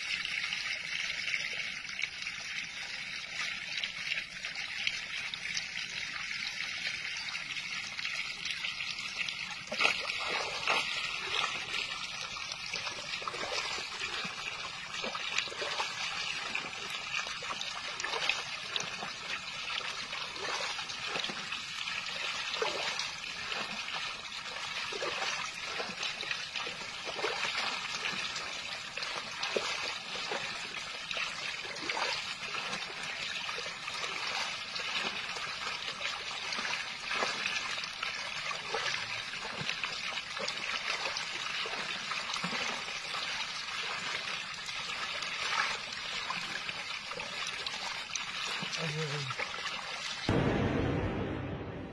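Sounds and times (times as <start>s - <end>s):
water trickling: 0.0s - 50.3s.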